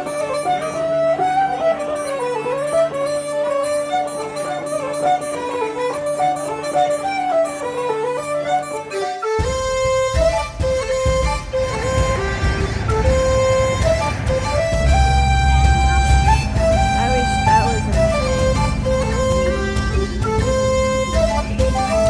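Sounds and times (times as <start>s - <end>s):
bagpipes playing: 0.0s - 22.0s.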